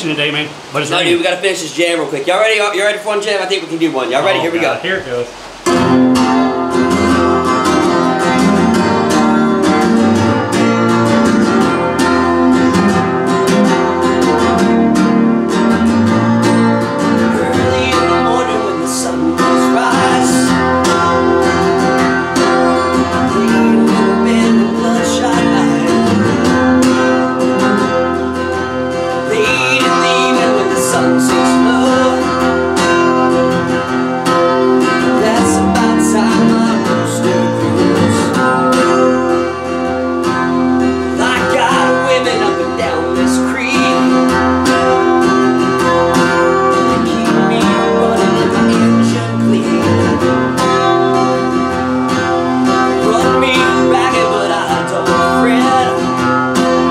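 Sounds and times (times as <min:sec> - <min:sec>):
acoustic guitar strumming: 0:00.0 - 0:56.9.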